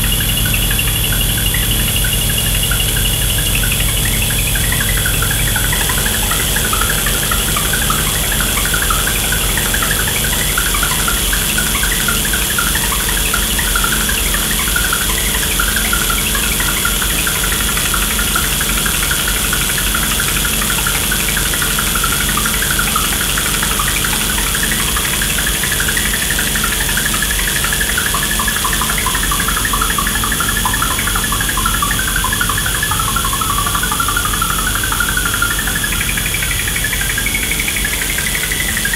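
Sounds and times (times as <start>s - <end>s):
electronic drone: 0.0s - 38.9s
faint steady high tones: 0.0s - 38.9s
flickering chattering noise: 0.0s - 38.9s.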